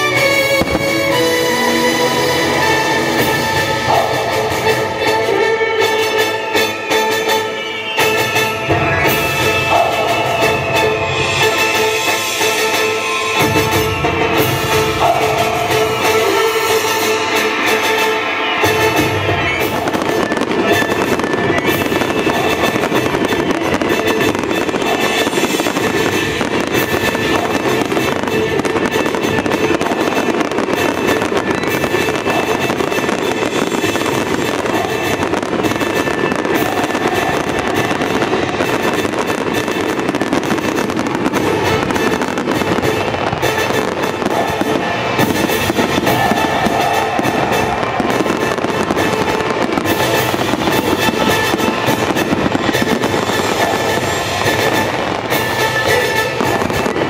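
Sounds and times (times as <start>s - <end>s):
fireworks bursting and crackling: 0.0s - 57.0s
music playing: 0.0s - 57.0s.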